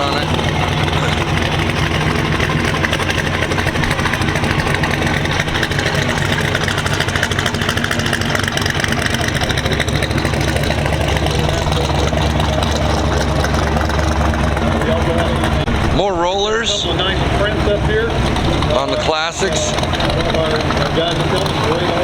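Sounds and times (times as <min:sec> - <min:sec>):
car engine idling with loud exhaust: 0:00.0 - 0:22.0.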